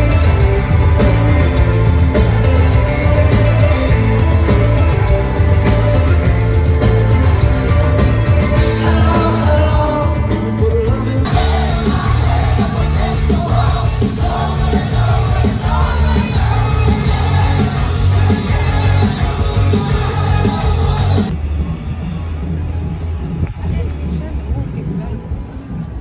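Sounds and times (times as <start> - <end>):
person singing: 0.0 - 21.3
rock band playing live: 0.0 - 21.4.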